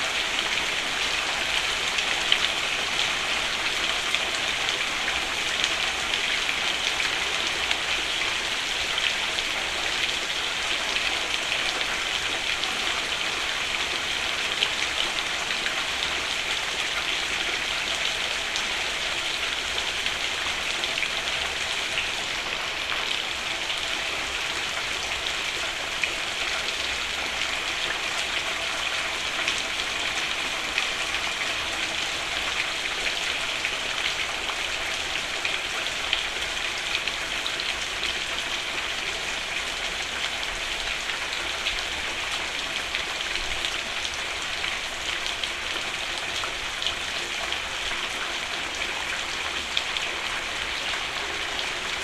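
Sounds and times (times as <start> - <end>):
rain on a roof: 0.0 - 52.0.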